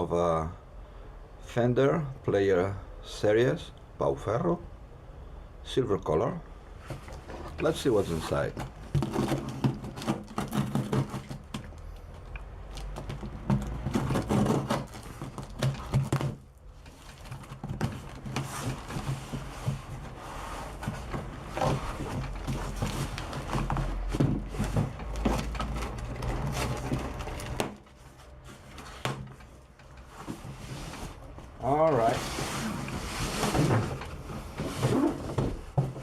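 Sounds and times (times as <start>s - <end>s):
cardboard rustling and scraping: 6.7s - 36.0s.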